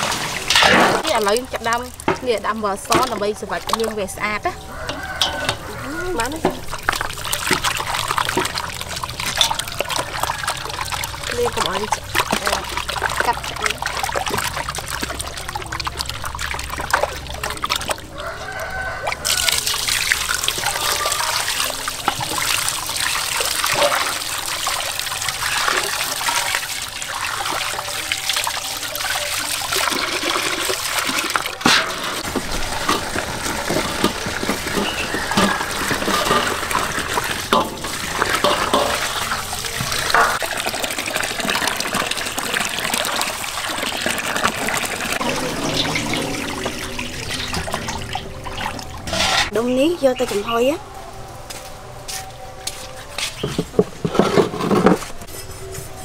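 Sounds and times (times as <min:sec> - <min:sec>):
tap water splashing in steel basin: 0:00.0 - 0:50.4.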